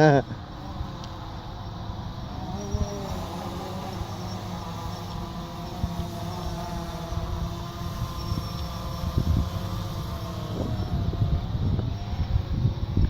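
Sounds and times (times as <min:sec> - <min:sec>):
drone propellers whining: 0:00.0 - 0:13.0
wind buffeting microphone: 0:00.2 - 0:13.0.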